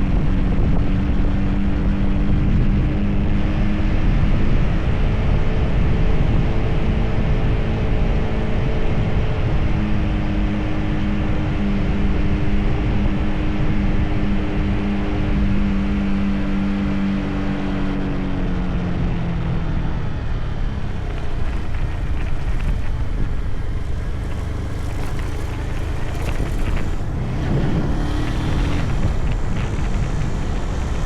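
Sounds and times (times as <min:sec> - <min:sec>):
motorcycle engine hum: 0:00.0 - 0:31.0
wind roaring on microphone: 0:00.0 - 0:31.0.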